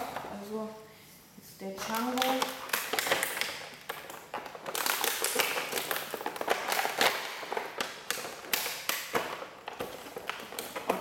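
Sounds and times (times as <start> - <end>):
stiff plastic and cardboard crackling: 1.8 - 11.0.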